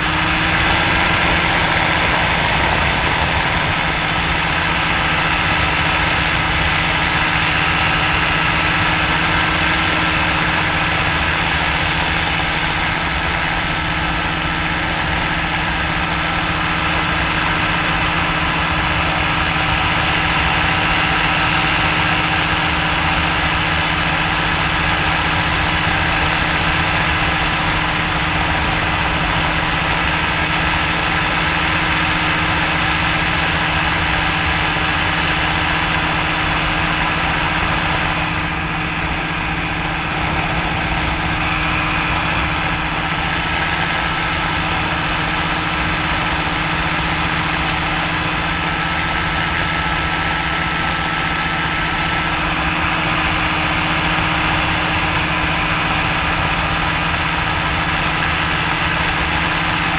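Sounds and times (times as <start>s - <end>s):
paraglider engine running: 0.0s - 59.9s.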